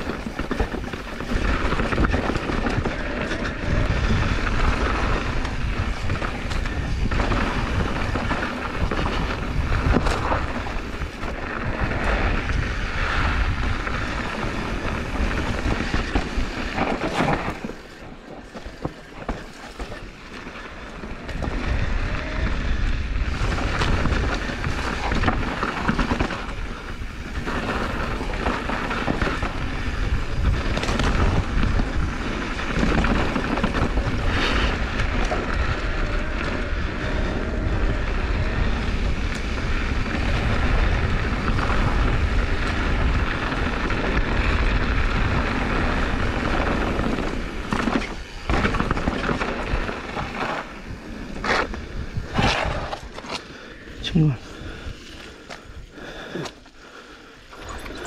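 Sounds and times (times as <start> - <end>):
wind rushing over microphone: 0.0 - 56.6
bike rattling over bumps: 0.0 - 58.0.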